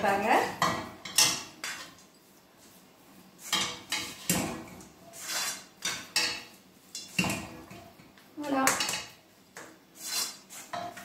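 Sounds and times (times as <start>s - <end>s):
spatula scraping frying pan: 0.1s - 8.0s, 9.8s - 11.0s.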